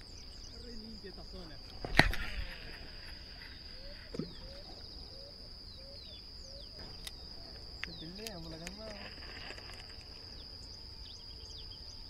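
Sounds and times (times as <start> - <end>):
birds chirping: 0.0 - 12.0
insect drone: 0.0 - 12.0.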